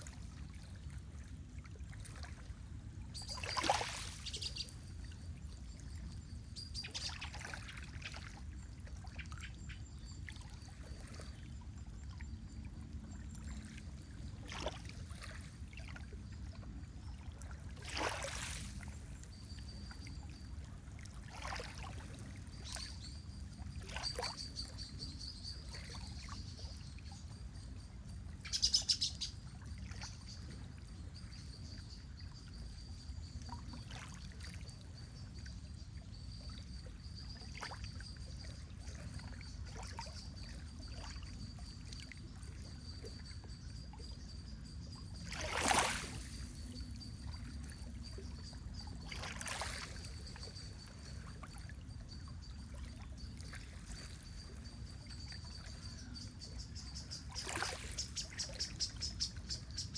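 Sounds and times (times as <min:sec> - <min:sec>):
lake water lapping at shore: 0:00.0 - 0:31.4, 0:33.4 - 0:35.4, 0:36.0 - 0:43.3, 0:45.2 - 0:59.9.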